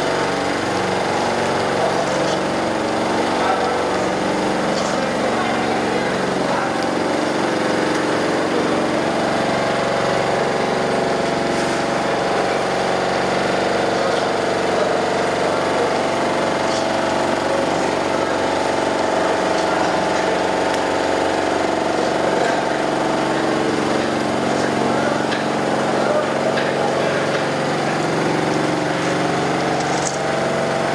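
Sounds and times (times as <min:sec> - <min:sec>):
engine humming steadily: 0:00.0 - 0:30.9.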